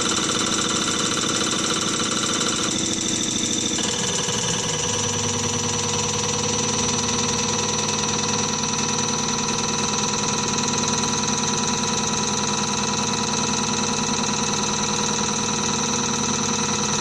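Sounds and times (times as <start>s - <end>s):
test bench mechanical whine: 0.0s - 17.0s.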